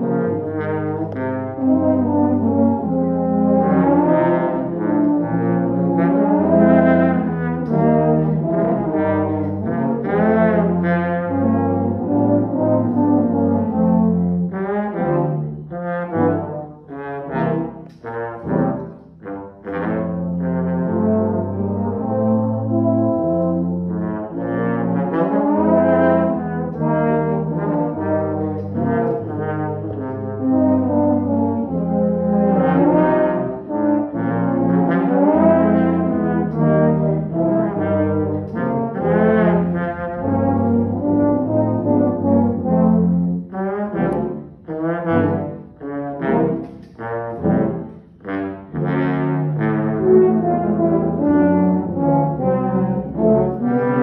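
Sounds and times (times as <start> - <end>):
low brass playing: 0.0 - 54.0.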